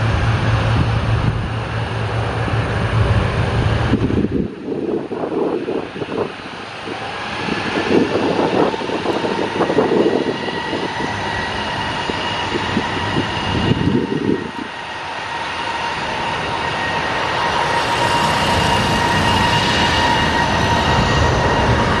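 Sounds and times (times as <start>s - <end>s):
light aircraft engine drone: 0.0s - 22.0s
wind buffeting microphone: 0.0s - 22.0s.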